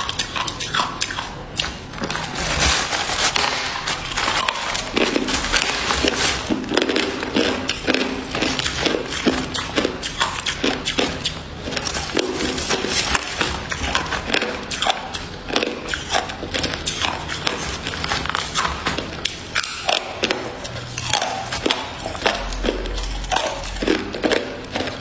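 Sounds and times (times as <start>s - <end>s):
ice cubes crunching: 0.0s - 25.0s.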